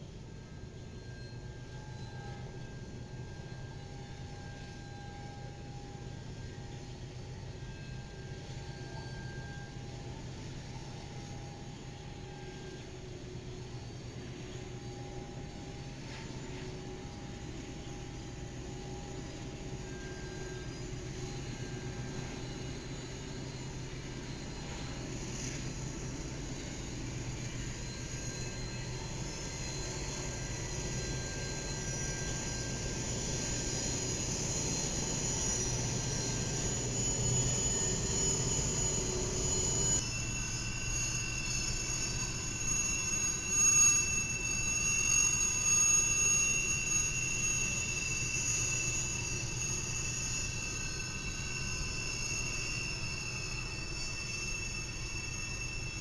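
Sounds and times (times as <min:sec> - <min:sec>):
steel wheel squeal: 0:00.0 - 0:56.0
train rumbling: 0:09.7 - 0:56.0.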